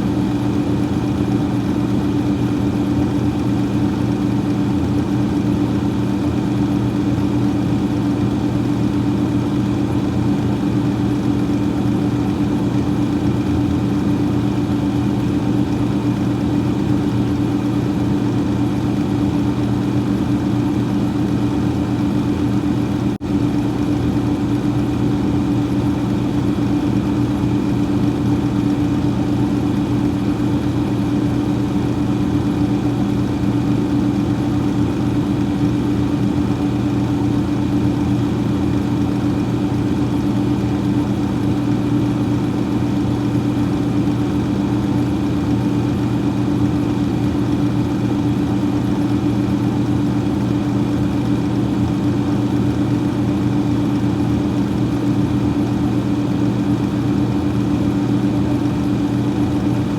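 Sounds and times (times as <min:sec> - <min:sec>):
freezer fan humming: 0:00.0 - 0:59.9.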